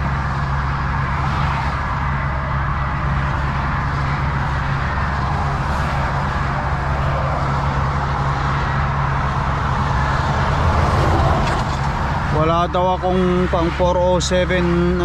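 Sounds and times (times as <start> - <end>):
diesel truck engine idling: 0.0 - 15.0
highway traffic rushing past: 0.0 - 15.0.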